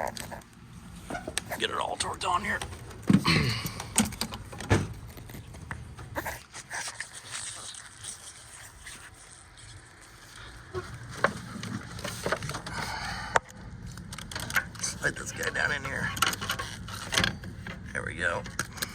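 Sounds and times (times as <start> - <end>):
hand tools clicking and scraping: 0.0 - 18.9.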